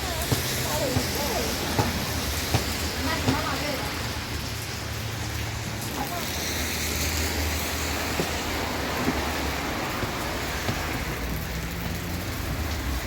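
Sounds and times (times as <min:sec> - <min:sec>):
heavy rain falling: 0:00.0 - 0:13.0
sharp raindrop taps: 0:00.0 - 0:13.0.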